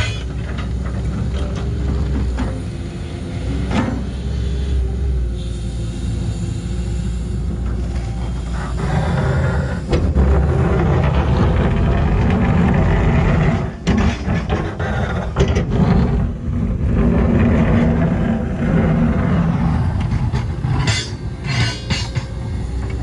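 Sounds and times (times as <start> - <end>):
excavator diesel engine rumbling: 0.0 - 23.0.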